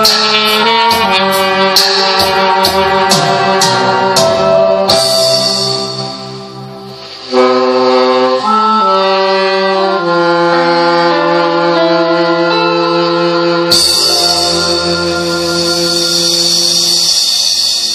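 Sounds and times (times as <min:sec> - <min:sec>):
reedy held chords: 0:00.0 - 0:17.9.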